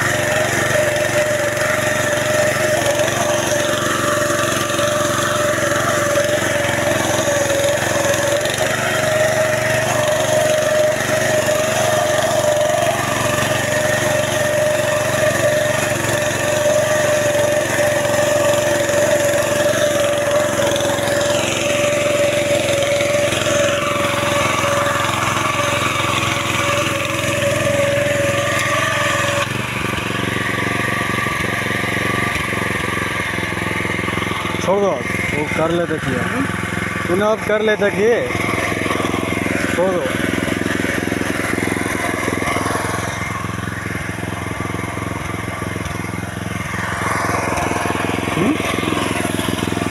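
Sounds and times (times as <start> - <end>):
small petrol engine running: 0.0 - 49.9.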